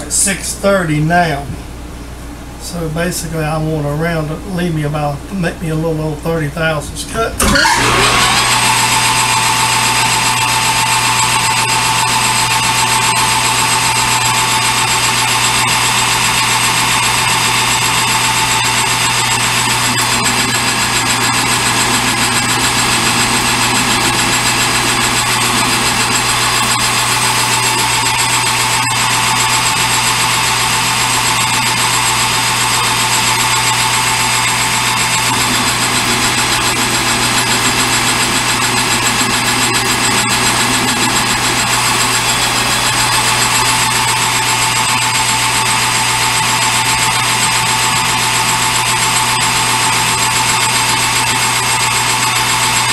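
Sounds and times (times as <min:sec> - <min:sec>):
lathe cutting tone: 0:07.4 - 0:52.9
metal lathe motor hum: 0:07.4 - 0:52.9.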